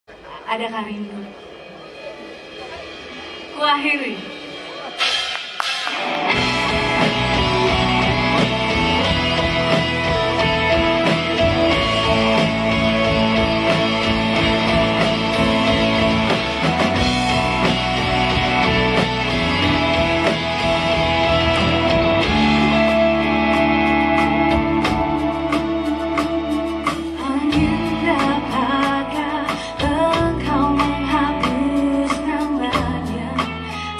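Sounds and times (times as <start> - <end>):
live rock band playing: 1.4 - 33.9.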